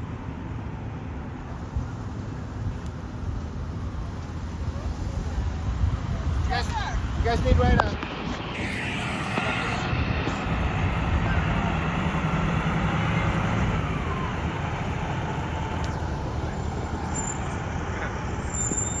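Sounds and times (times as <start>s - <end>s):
diesel engine droning: 0.0s - 19.0s
street traffic noise: 0.0s - 19.0s.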